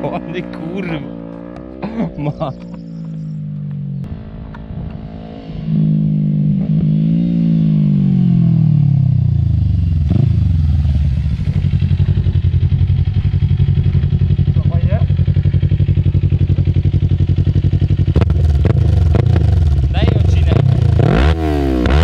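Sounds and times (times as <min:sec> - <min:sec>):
motorcycle engine idling: 0:00.0 - 0:05.1, 0:05.9 - 0:21.1
motorcycle engine approaching: 0:00.0 - 0:22.0.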